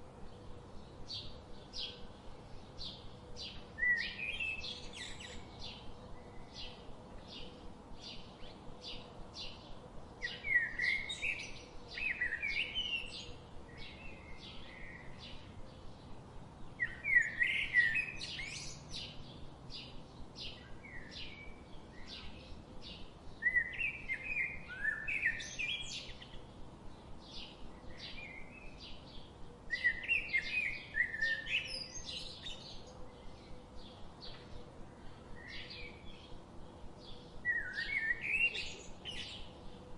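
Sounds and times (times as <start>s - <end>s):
bird warbling song: 2.8s - 26.6s, 27.2s - 36.4s, 37.0s - 39.8s.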